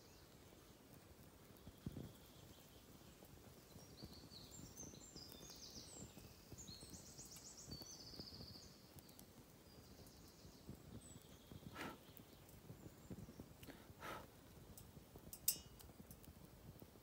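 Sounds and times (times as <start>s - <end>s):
low rustle: 0.3s - 17.0s.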